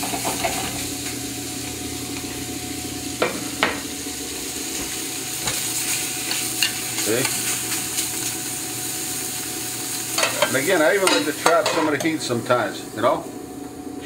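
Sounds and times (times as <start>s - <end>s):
steak sizzling in hot skillet: 0.0s - 13.5s.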